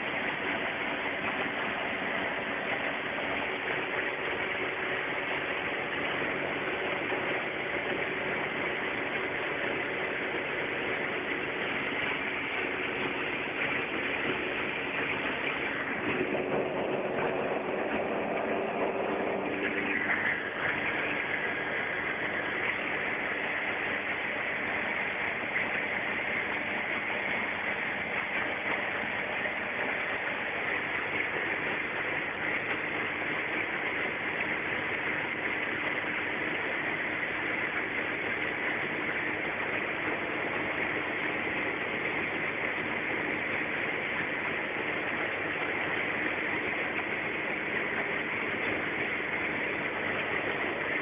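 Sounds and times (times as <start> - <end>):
aircraft engine and propeller drone: 0.0 - 51.0
rushing airflow: 0.0 - 51.0.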